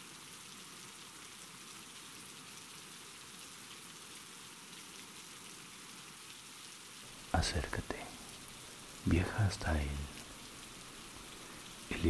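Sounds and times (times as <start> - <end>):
steady rainfall: 0.0 - 12.0.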